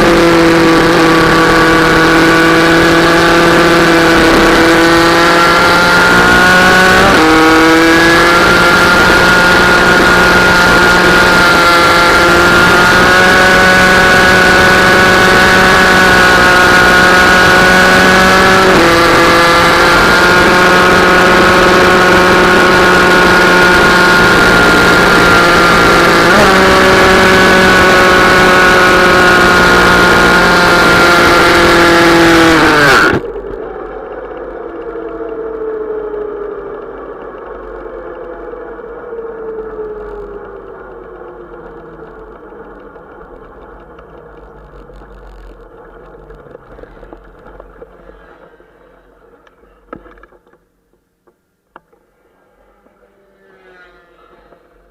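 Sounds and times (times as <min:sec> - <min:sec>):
minibike engine revving high: 0:00.0 - 0:48.8, 0:52.5 - 0:54.9.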